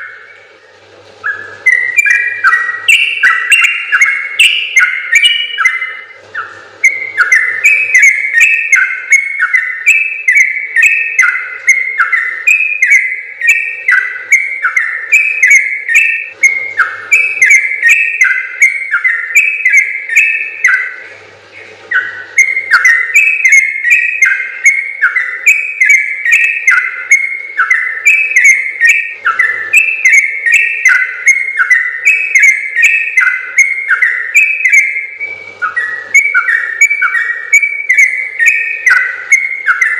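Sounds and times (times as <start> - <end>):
bird singing bubbly whistles: 0.0 - 39.9.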